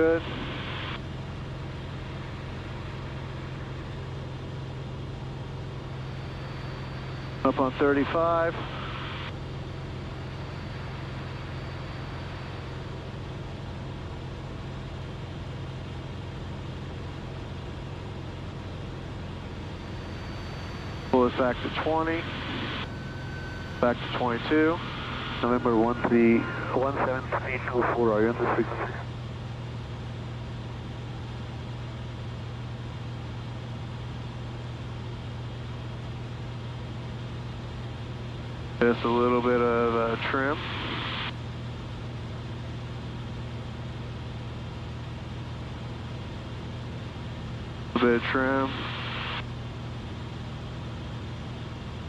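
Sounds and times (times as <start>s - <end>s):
propeller plane engine droning: 0.0s - 52.0s.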